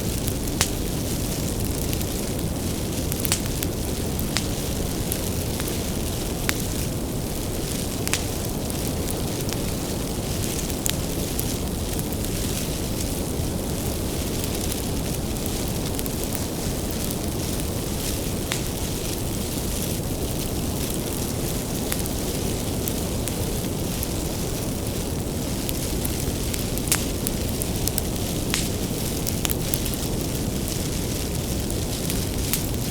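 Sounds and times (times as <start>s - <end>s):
firewood crackling and popping: 0.0s - 32.9s
wood fire rumbling: 0.0s - 32.9s.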